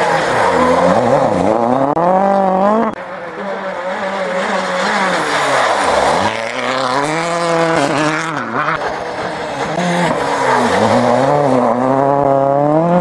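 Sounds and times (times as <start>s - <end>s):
rally car engines braking and accelerating: 0.0s - 13.0s.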